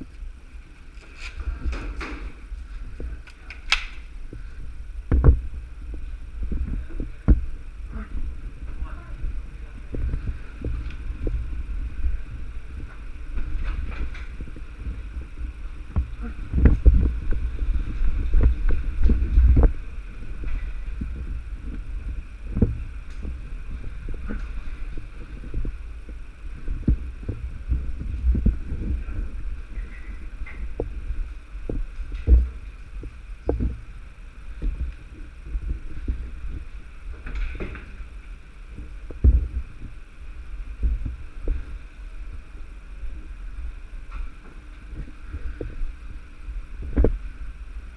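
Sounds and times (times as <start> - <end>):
low rumble: 0.0 - 47.9.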